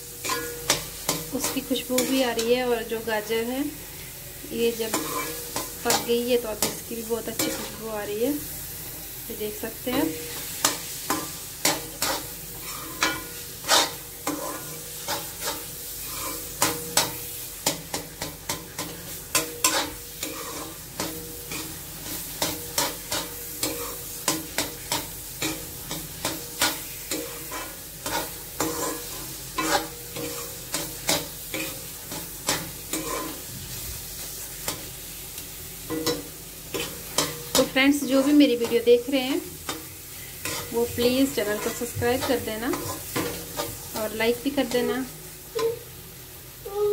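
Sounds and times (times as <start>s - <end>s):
metal spatula scraping a pan: 0.0s - 3.3s, 4.7s - 9.2s, 9.8s - 34.9s, 35.9s - 45.7s.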